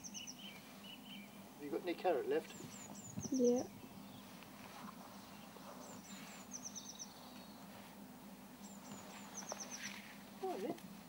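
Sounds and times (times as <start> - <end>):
faint songbird singing: 0.0 - 10.8.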